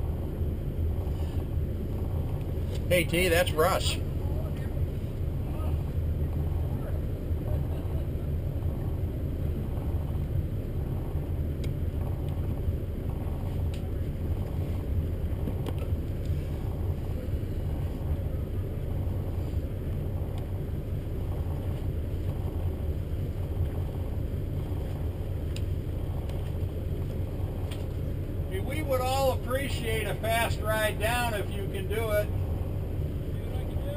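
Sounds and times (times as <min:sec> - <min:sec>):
boat engines idling: 0:00.0 - 0:33.9.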